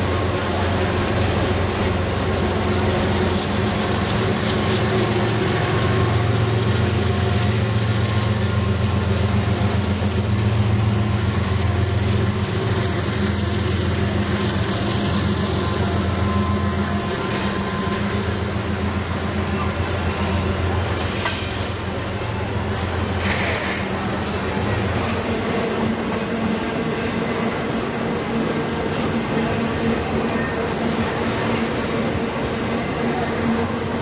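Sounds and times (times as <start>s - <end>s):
train rumbling past: 0.0s - 34.0s.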